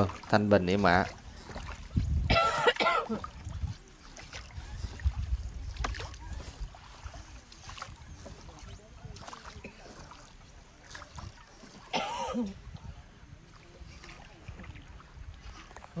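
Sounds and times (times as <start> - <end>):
oar strokes in water: 0.0 - 16.0.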